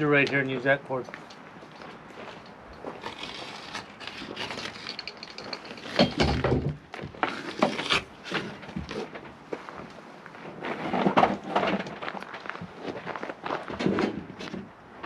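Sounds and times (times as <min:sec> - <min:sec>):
rustling of gear: 0:01.2 - 0:13.7.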